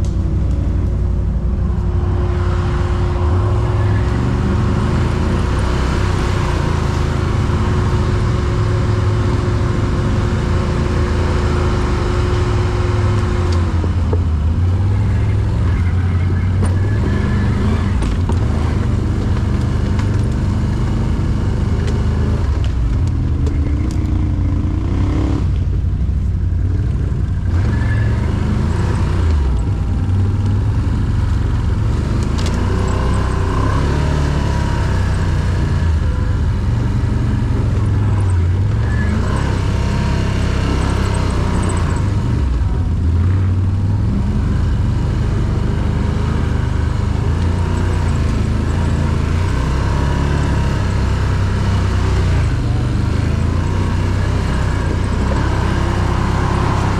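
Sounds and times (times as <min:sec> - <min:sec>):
quad bike engine revving: 0:02.0 - 0:25.8, 0:26.7 - 0:56.9.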